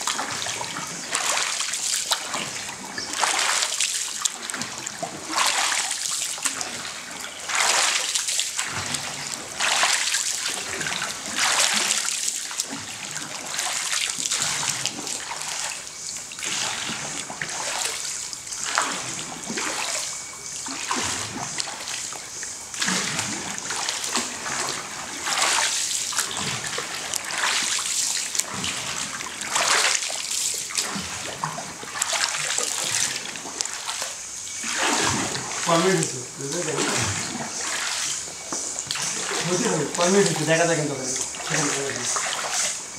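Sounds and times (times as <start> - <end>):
water splashing from pole strokes: 0.0 - 42.9.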